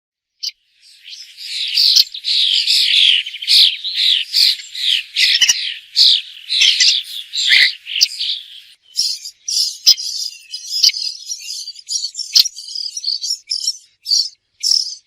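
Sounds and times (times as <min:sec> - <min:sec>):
bird calling: 0:00.4 - 0:15.0.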